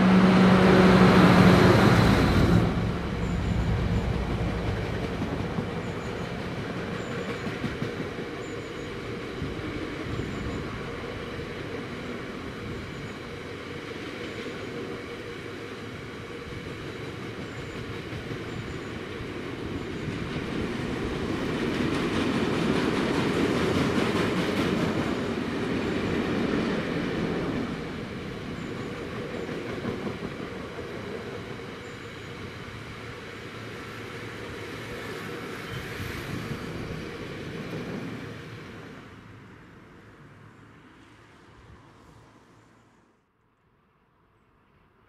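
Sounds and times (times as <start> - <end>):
train wheels rumbling on rails: 0.0 - 39.4.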